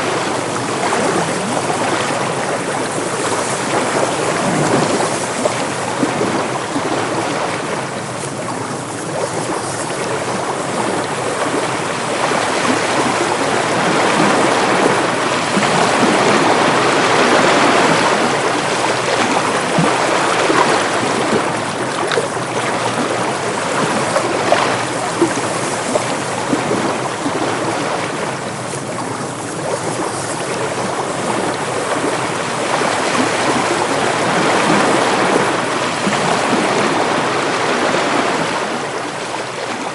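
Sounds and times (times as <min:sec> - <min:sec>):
ocean waves washing ashore: 0:00.0 - 0:39.9
wind: 0:00.0 - 0:39.9.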